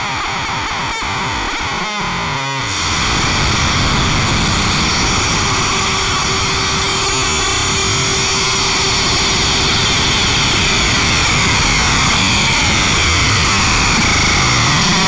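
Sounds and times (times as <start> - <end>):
distorted synthesizer noise: 0.0 - 15.0.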